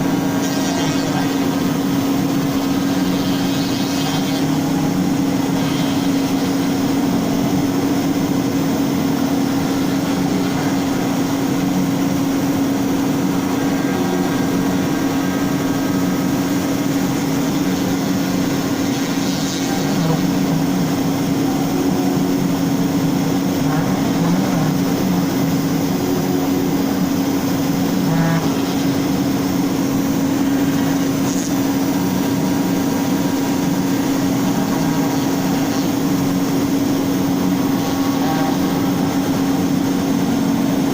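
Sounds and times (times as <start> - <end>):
cnc router spindle cutting wood: 0.0 - 40.9.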